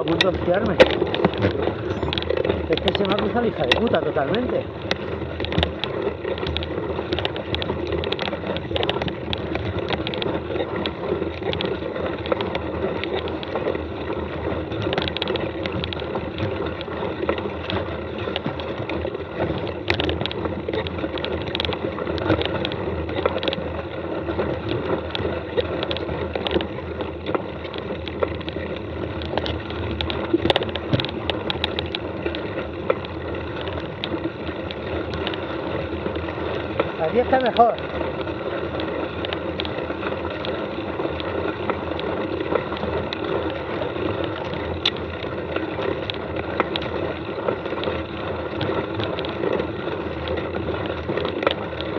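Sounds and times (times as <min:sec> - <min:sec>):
bike rattling clicks: 0:00.0 - 0:51.9
bike tyre noise: 0:00.0 - 0:51.9.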